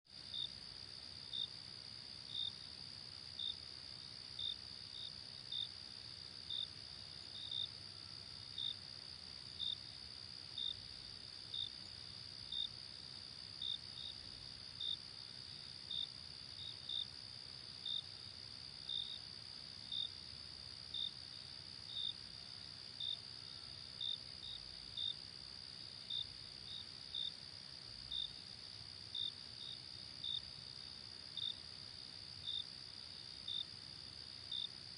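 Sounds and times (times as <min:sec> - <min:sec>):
insect chirps: 0:00.2 - 0:34.9.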